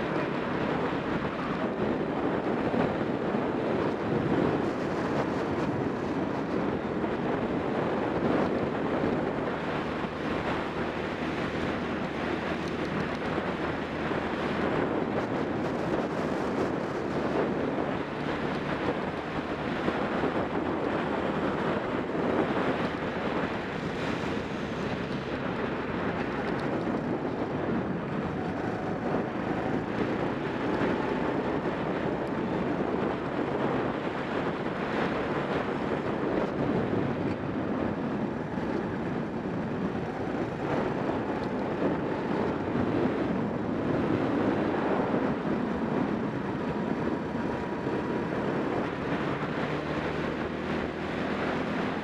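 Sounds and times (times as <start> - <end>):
racing kart engine: 0.0 - 52.0
wind noise on microphone: 0.0 - 52.0.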